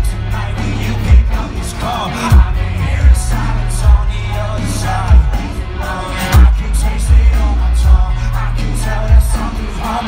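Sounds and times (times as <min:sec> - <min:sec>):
heavy bass: 0:00.0 - 0:10.0
live pop-punk band: 0:00.0 - 0:10.0
person singing: 0:00.0 - 0:10.0.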